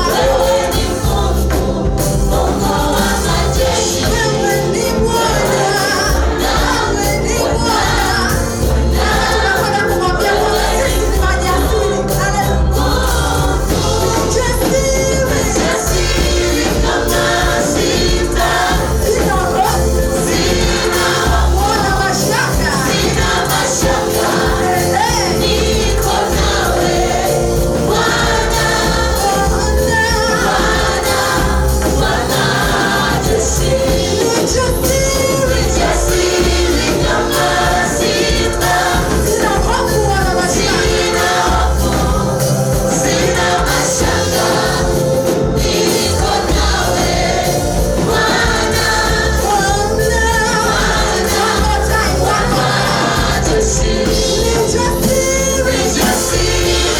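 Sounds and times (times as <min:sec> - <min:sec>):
choir singing gospel song: 0:00.0 - 0:56.9
instrumental backing with beat: 0:00.0 - 0:56.9.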